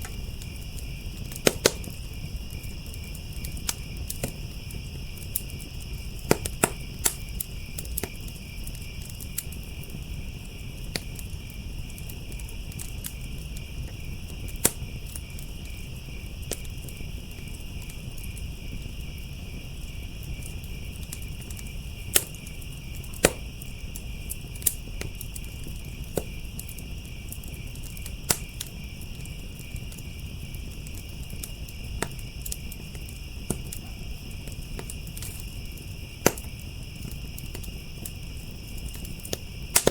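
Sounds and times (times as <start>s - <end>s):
crickets chirping: 0.0s - 39.9s
wood fire crackling and popping: 0.0s - 39.9s.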